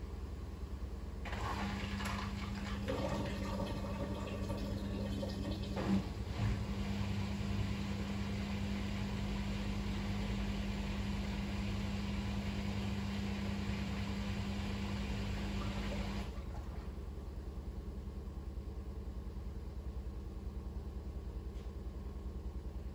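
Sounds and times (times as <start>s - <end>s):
washing machine spinning: 0.0s - 22.9s.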